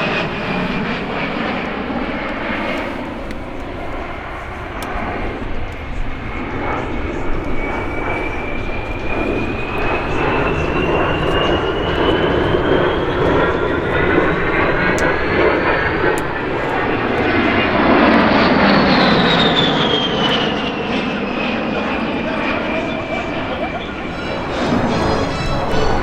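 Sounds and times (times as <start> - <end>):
airplane engines passing by: 0.0 - 26.0.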